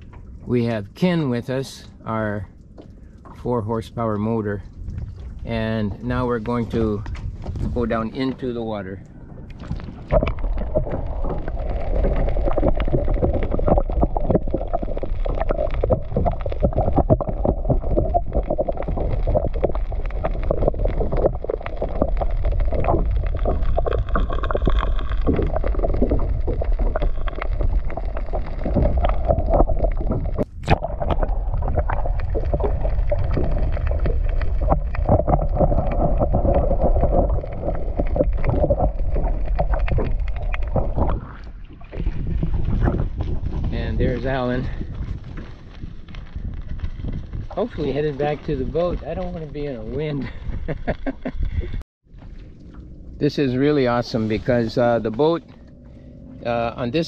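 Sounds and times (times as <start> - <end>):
small crackles and knocks: 0.0 - 0.6, 2.5 - 3.5, 4.6 - 53.2
underwater rushing and sloshing: 0.0 - 57.0.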